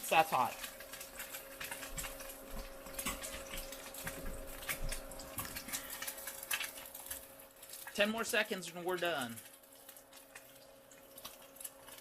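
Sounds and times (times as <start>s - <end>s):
egg sizzling in oil: 0.0s - 12.0s.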